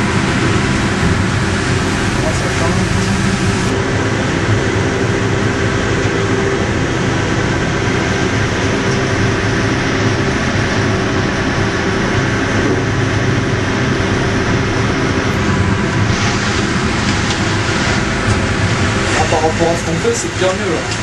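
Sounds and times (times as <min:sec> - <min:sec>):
sawmill machinery drone: 0:00.0 - 0:21.0.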